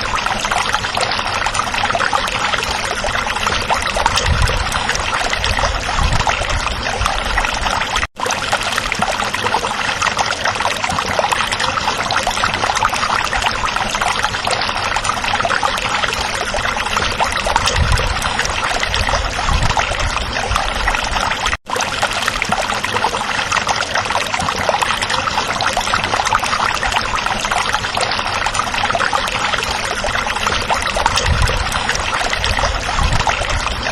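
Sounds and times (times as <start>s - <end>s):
stream babbling over stones: 0.0s - 33.9s.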